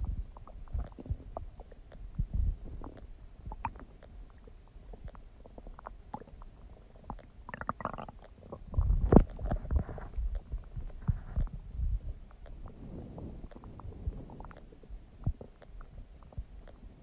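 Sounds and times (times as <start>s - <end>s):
stomach gurgling: 0.0s - 17.0s.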